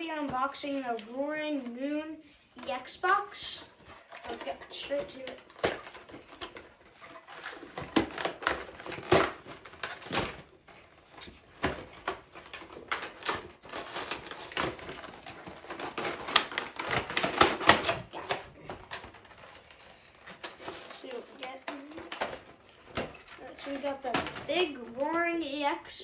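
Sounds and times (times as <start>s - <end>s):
box clicks and crackles: 2.6s - 25.7s
cardboard packaging being torn: 4.0s - 25.0s.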